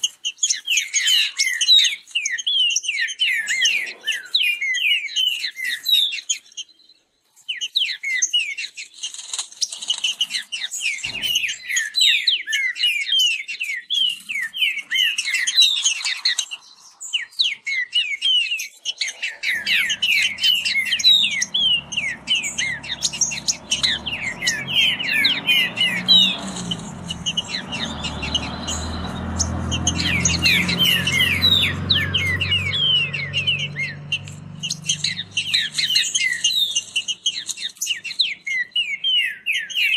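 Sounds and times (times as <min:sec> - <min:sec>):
birds singing fast whistled notes: 0:00.0 - 0:39.9.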